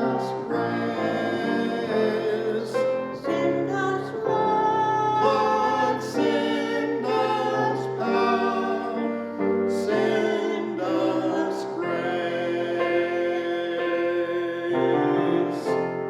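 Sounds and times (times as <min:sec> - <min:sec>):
person singing a hymn: 0:00.0 - 0:16.0
piano accompaniment: 0:00.0 - 0:16.0.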